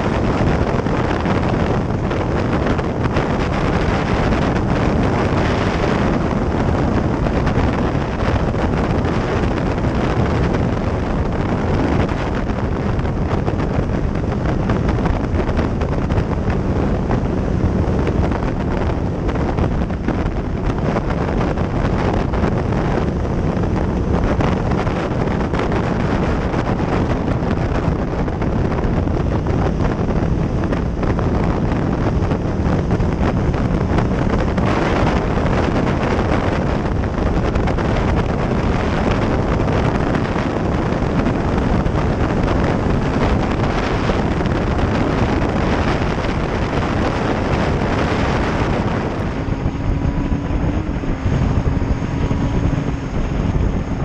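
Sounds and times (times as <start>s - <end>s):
motorcycle engine: 0.0s - 54.0s
road noise: 0.0s - 54.0s
wind rushing over microphone: 0.0s - 54.0s.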